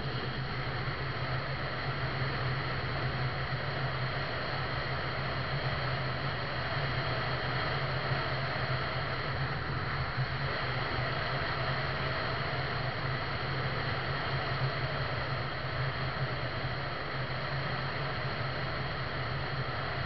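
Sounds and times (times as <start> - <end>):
constant low hum: 0.0 - 20.0.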